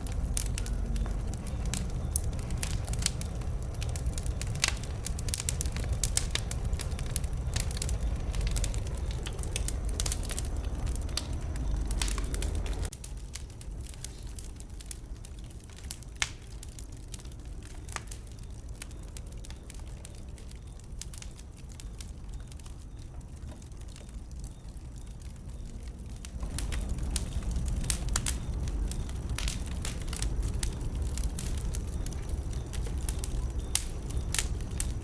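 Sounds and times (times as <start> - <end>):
low rumble: 0.0 - 21.0, 21.7 - 35.0
bonfire crackling and popping: 0.0 - 35.0.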